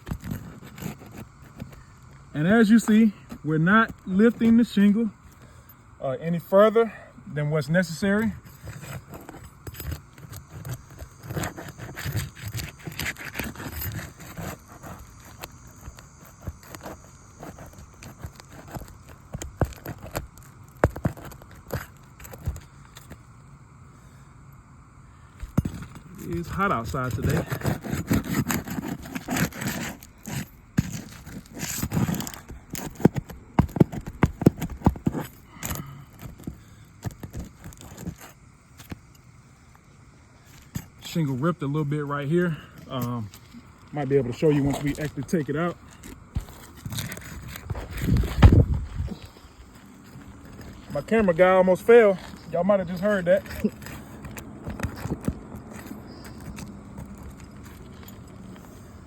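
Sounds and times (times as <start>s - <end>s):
roof shingles scraping and crackling: 0.0s - 5.7s, 7.5s - 23.3s, 25.4s - 59.0s.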